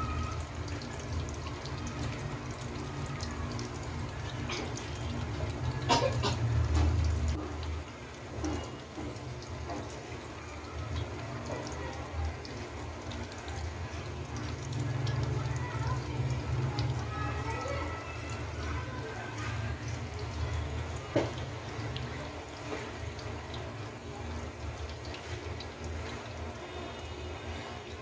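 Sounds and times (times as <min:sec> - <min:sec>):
deep-frying sizzle: 0:00.0 - 0:28.0.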